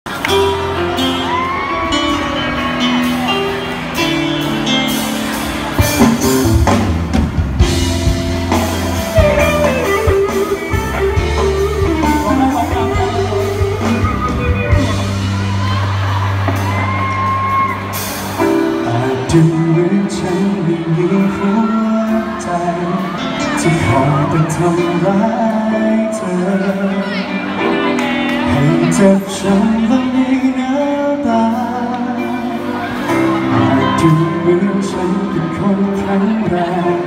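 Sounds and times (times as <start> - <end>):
drums: 0.0 - 37.0
live pop band playing: 0.1 - 37.0.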